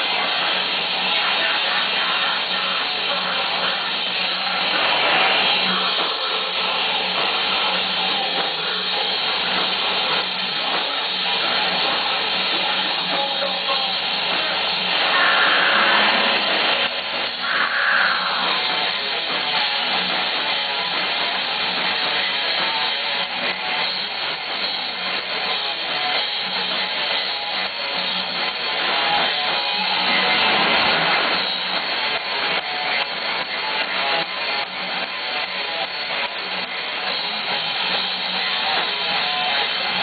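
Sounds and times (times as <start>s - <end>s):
rock band playing: 0.0s - 40.0s.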